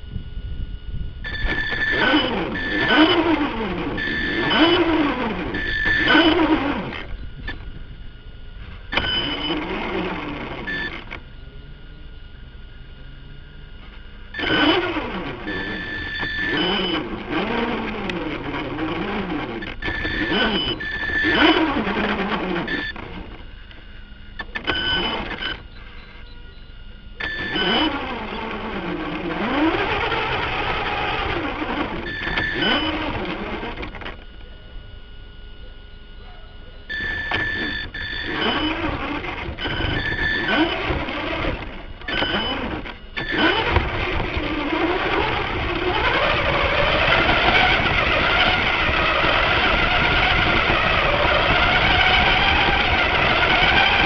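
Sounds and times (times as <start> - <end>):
electric toy car motor whining: 1.2 - 11.3, 12.9 - 34.5, 36.9 - 54.0.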